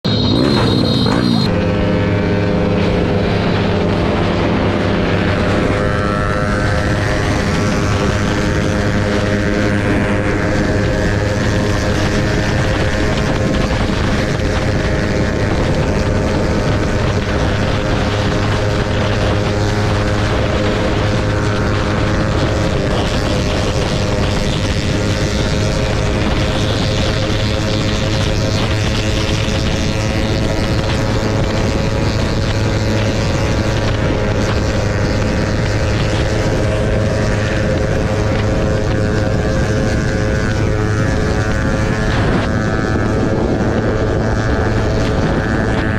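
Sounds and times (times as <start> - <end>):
motorcycle engine droning: 0.0 - 45.9.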